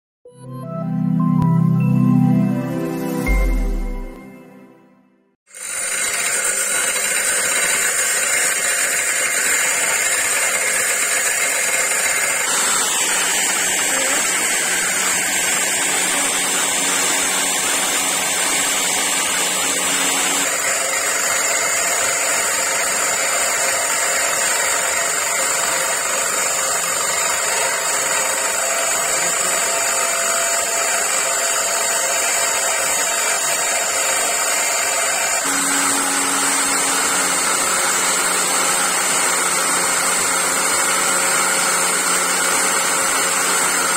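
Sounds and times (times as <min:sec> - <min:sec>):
angle grinder cutting steel: 0:05.5 - 0:43.9.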